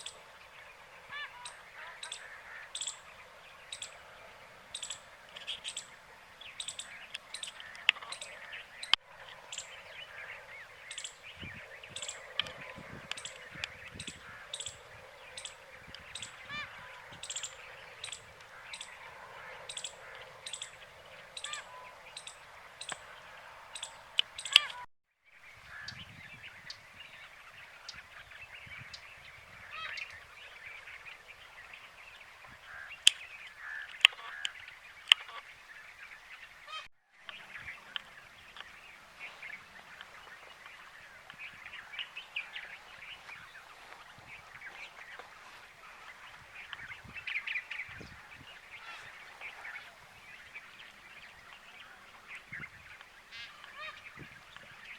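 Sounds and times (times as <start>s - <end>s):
flock of birds honking: 0.0s - 24.9s, 27.2s - 54.9s.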